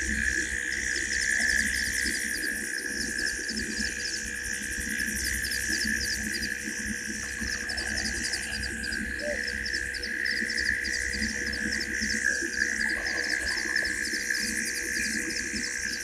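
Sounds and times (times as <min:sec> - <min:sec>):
insect chorus drone: 0:00.0 - 0:16.0
insect double chirp: 0:00.0 - 0:16.0.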